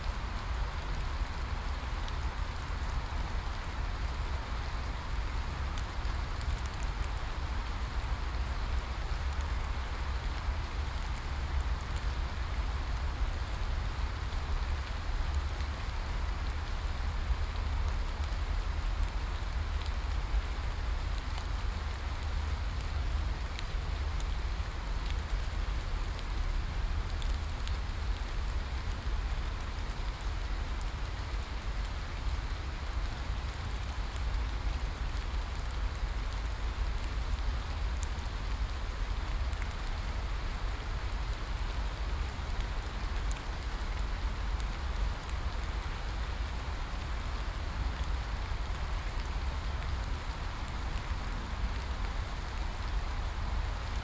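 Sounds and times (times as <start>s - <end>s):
rain on foliage: 0.0s - 54.0s.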